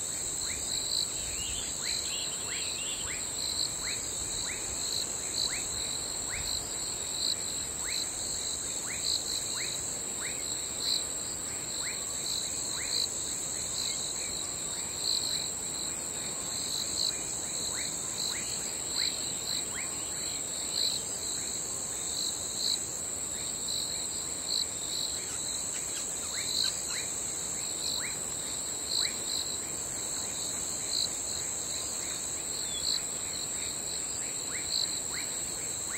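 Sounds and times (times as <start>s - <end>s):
intermittent insect trill: 0.0s - 35.9s
steady high insect trill: 0.0s - 35.9s.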